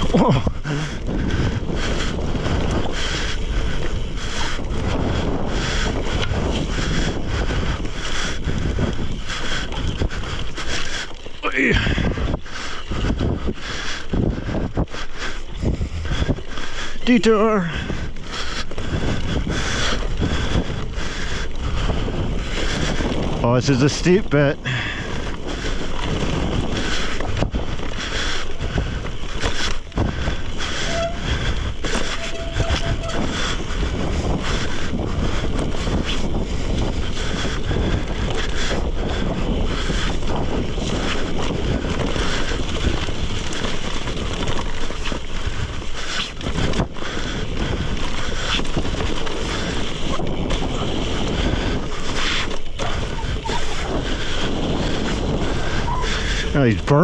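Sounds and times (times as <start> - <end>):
bike tyres roaring on dirt: 0.0 - 57.0
wind on microphone: 0.0 - 57.0.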